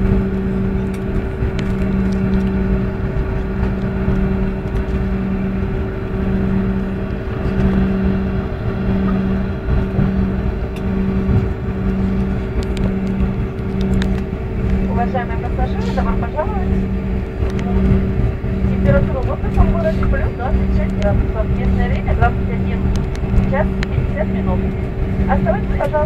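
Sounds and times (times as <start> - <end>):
jet engine and airflow noise in cabin: 0.0 - 26.0
low pulsing hum: 0.0 - 26.0.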